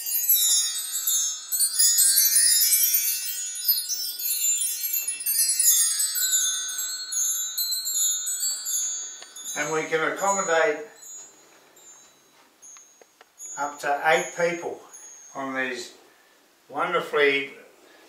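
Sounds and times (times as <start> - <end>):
bar chimes ringing: 0.0 - 16.3.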